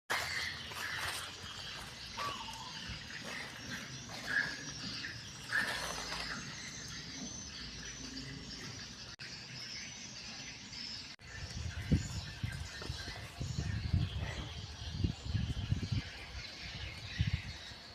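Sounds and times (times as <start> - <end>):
birds chirping: 0.1 - 17.9.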